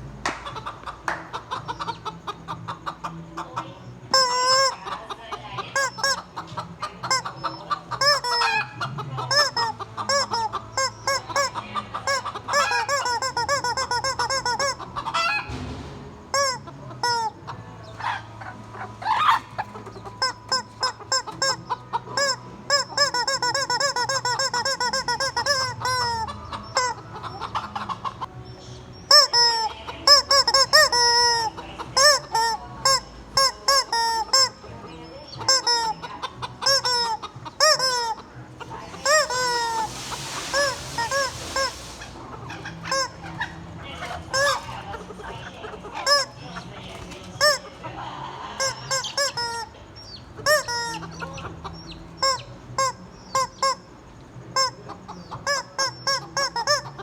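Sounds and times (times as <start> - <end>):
chickens clucking and squawking: 0.0 - 57.0
rubber chicken toy squeaking: 0.6 - 47.8, 48.4 - 57.0.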